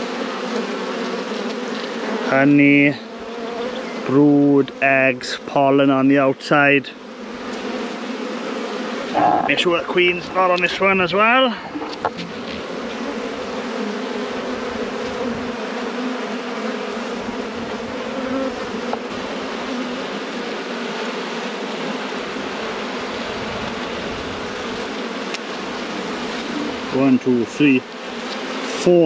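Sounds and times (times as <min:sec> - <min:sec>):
honeybees buzzing: 0:00.0 - 0:29.0.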